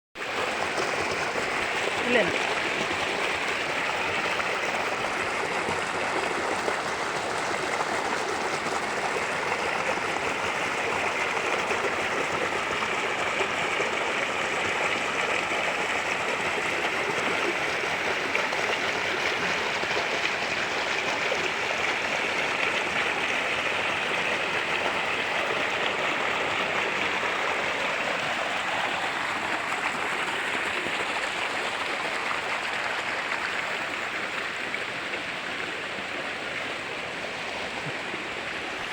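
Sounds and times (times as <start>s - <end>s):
stream water flowing: 0.2s - 38.9s.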